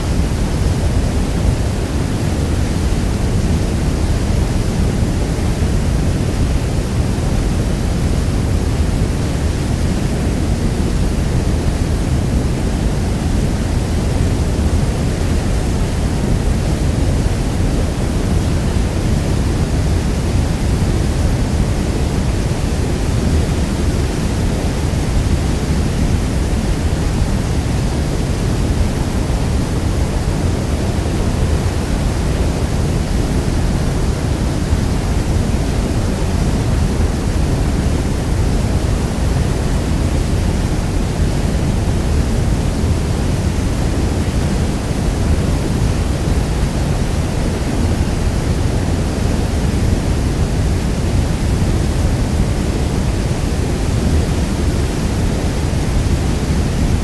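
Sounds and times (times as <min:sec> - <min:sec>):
large waterfall rushing: 0:00.0 - 0:57.0.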